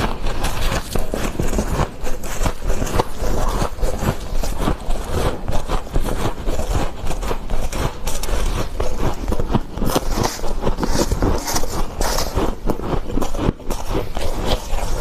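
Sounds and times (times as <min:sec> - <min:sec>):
freezer frost crunching: 0:00.0 - 0:15.0.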